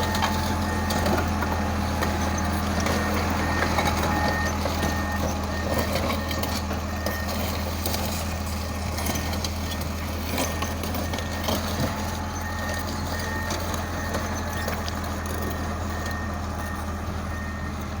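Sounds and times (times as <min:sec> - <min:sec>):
reversing alarm beeping: 0:00.0 - 0:08.2, 0:09.0 - 0:18.0
bulldozer diesel engine running: 0:00.0 - 0:18.0.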